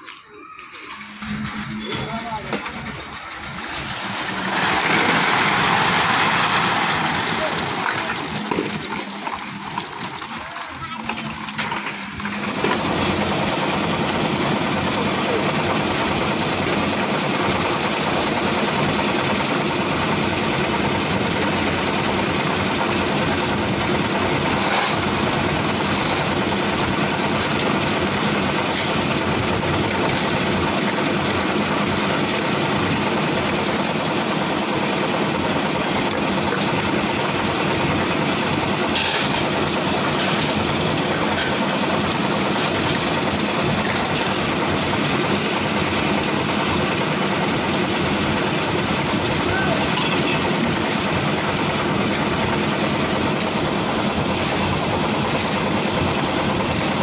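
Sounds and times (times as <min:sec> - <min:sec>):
concrete mixer running: 0:00.0 - 0:57.0.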